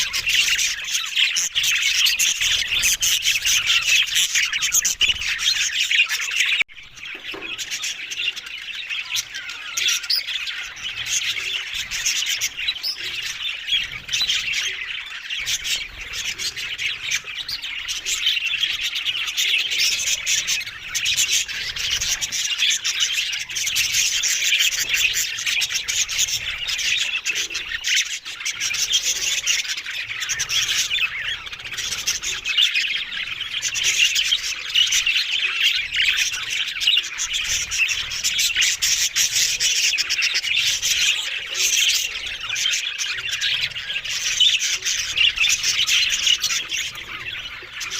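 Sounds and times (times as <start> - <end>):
budgerigars chattering: 0.0 - 47.9.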